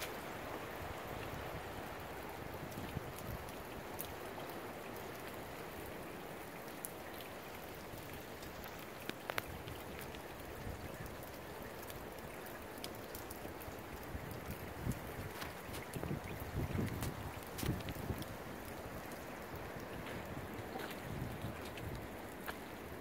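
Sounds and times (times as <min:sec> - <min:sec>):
raindrop ticks: 0:00.0 - 0:23.0.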